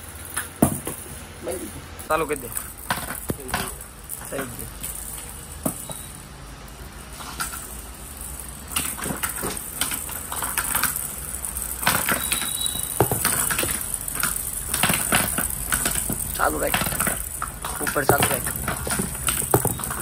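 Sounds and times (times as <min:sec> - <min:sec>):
plastic balls clattering down ramp: 0:00.0 - 0:01.2, 0:02.1 - 0:20.0.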